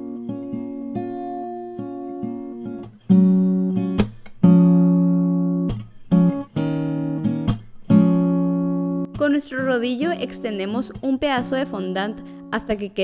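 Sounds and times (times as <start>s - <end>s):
acoustic guitar plucking: 0.0s - 13.0s.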